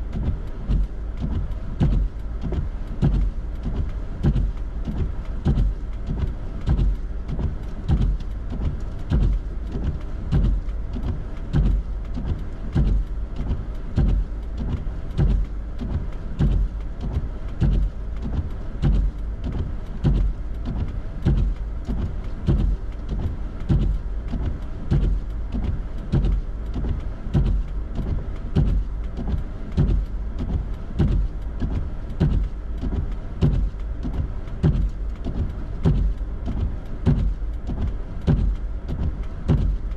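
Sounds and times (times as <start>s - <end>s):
vehicle low rumble: 0.0s - 39.9s
regular thump: 0.2s - 39.9s.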